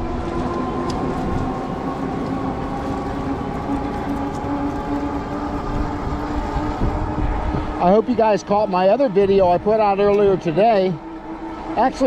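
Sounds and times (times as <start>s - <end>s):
electric bike riding whine: 0.0s - 12.0s
wind buffeting microphone: 0.0s - 12.0s.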